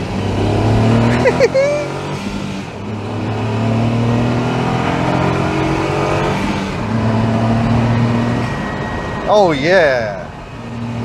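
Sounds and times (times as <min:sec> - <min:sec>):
car engine pulling from inside cabin: 0:00.0 - 0:09.6.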